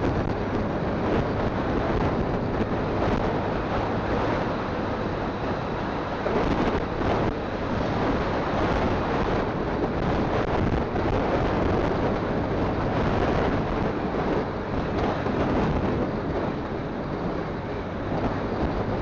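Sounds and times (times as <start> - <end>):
motorcycle engine: 0.0 - 19.0
road noise: 0.0 - 19.0
wind buffeting microphone: 0.0 - 19.0.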